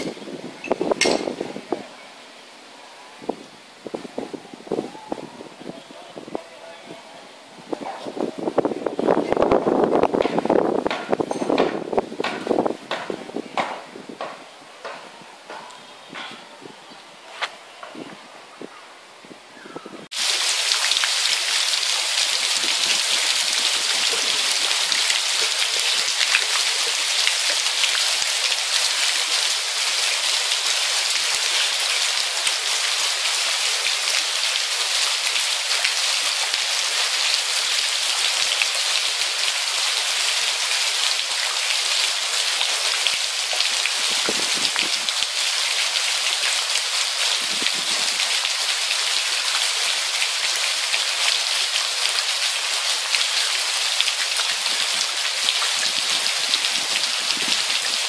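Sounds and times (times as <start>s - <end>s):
heavy rain on standing water: 0.0s - 19.4s, 20.0s - 58.0s.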